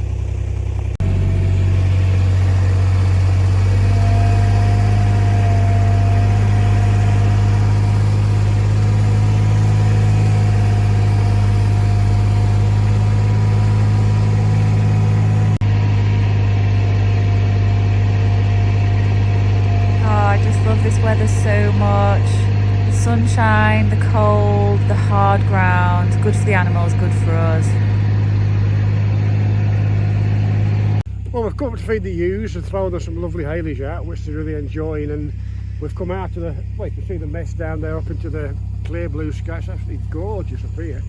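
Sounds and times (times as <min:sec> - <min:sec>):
vehicle engine humming: 0:00.0 - 0:41.0.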